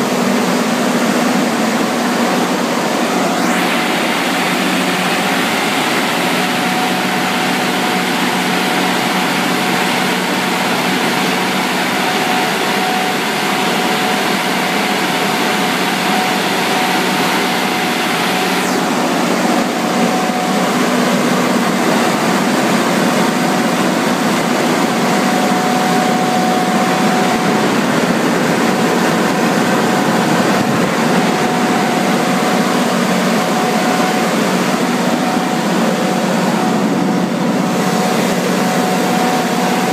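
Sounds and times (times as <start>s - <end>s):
diesel generator droning: 0.0s - 39.9s.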